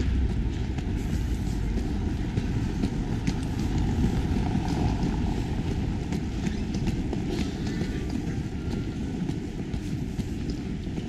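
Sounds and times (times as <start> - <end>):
footsteps on stone paving: 0.0 - 11.0
wind buffeting microphone: 0.0 - 11.0.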